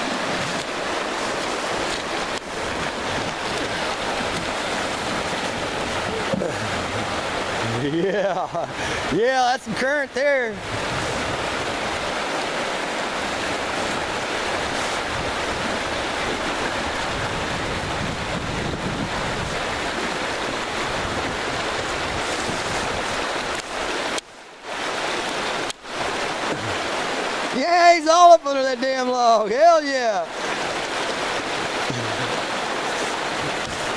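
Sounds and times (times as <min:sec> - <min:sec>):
whitewater rapids rushing over rocks: 0:00.0 - 0:33.9.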